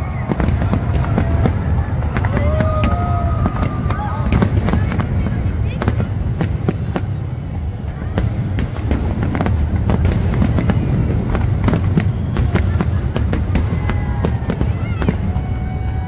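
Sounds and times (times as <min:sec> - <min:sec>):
fireworks bangs and crackles: 0:00.0 - 0:16.0
whistling fireworks: 0:00.0 - 0:16.0.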